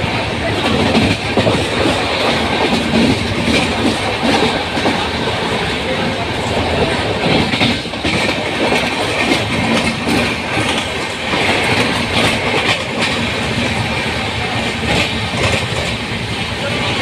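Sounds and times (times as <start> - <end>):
train coach rumbling: 0.0 - 17.0
wheels clacking over rail joints: 0.0 - 17.0.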